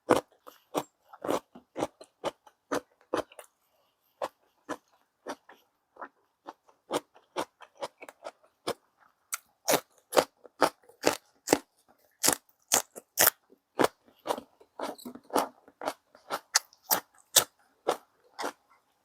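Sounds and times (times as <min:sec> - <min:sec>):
chewing with sharp crunches: 0:00.0 - 0:19.0.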